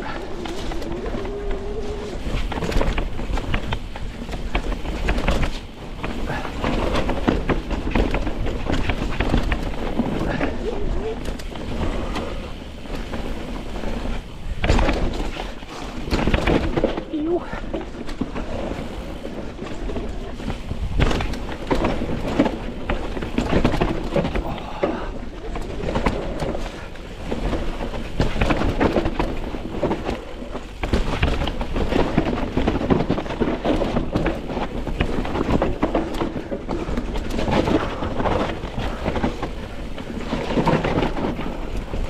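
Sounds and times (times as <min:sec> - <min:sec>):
bike knocking over bumps: 0:00.0 - 0:42.0
bike rattling: 0:00.0 - 0:42.0
bike tyres rumbling on dirt: 0:00.0 - 0:42.0.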